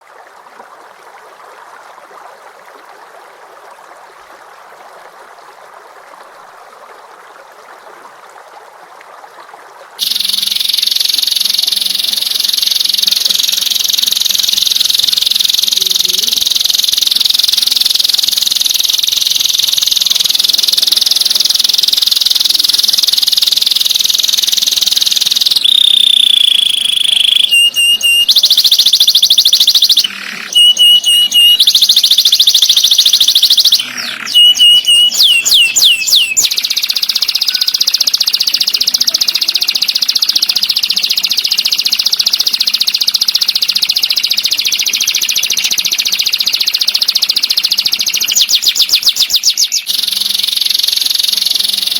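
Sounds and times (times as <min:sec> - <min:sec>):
bird piping notes: 0:10.0 - 0:51.9
songbird trilling: 0:10.0 - 0:51.9.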